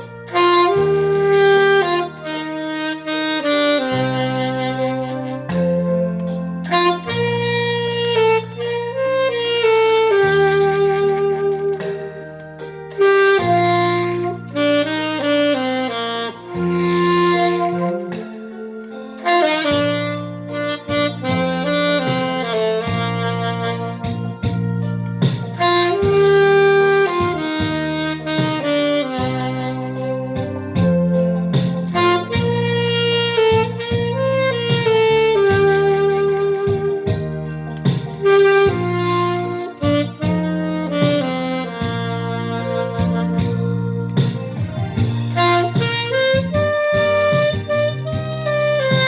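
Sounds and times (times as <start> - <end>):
backing track bass and chords: 0.0 - 49.0
saxophone melody: 0.0 - 49.0.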